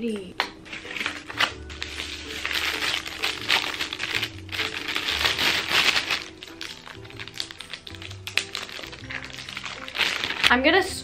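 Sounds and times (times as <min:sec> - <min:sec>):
plastic bag crinkling: 0:00.6 - 0:11.0.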